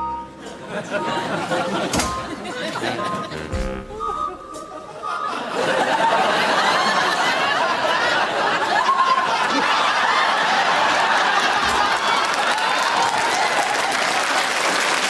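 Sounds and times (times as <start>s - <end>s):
audience laughing: 0.4s - 13.7s.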